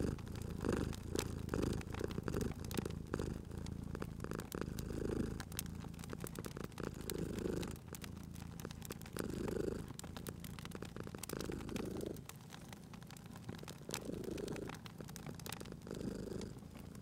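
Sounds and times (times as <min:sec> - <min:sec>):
cat purring: 0:00.0 - 0:17.0
wood fire crackling and popping: 0:00.0 - 0:17.0.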